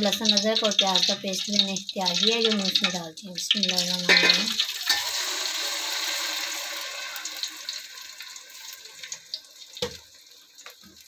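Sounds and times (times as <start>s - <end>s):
paste sizzling in hot ghee: 0.0s - 11.0s.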